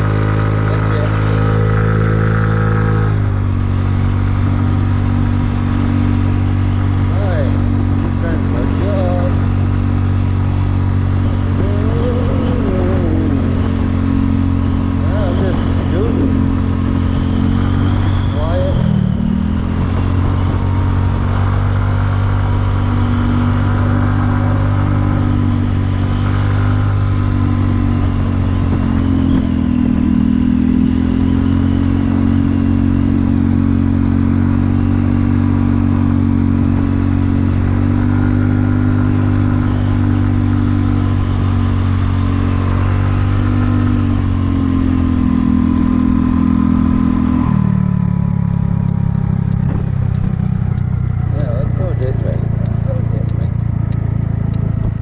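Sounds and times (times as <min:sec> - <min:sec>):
scooter engine revving: 0:00.0 - 0:55.0.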